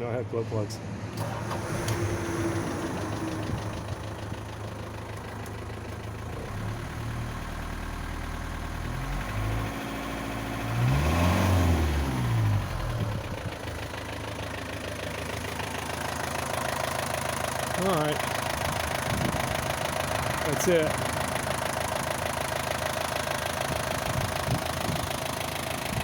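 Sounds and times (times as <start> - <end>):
diesel engine idling and revving: 0.0 - 26.0.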